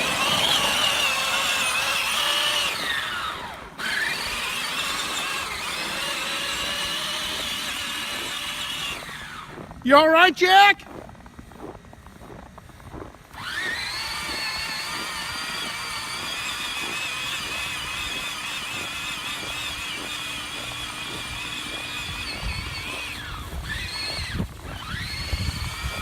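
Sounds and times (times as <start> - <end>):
electric motors whining: 0.0 - 26.0.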